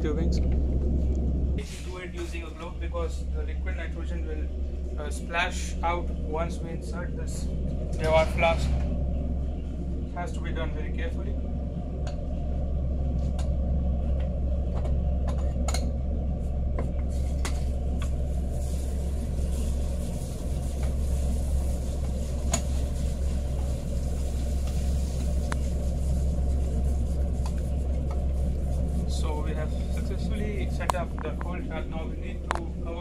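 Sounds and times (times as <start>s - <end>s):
vacuum pump drone: 0.0s - 33.0s.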